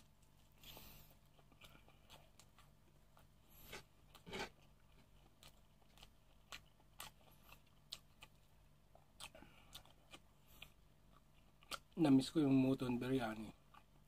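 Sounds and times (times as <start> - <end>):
close chewing: 0.0 - 14.0.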